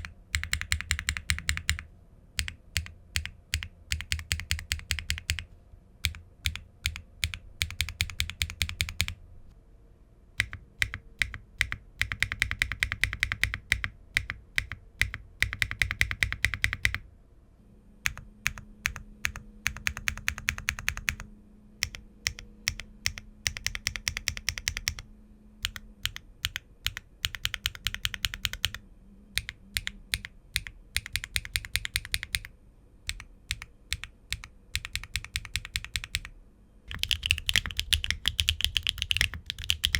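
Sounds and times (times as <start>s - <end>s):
mechanical keyboard typing: 0.0s - 9.2s, 10.4s - 17.0s, 18.0s - 25.0s, 25.6s - 28.8s, 29.4s - 32.5s, 33.1s - 36.3s, 36.9s - 39.9s.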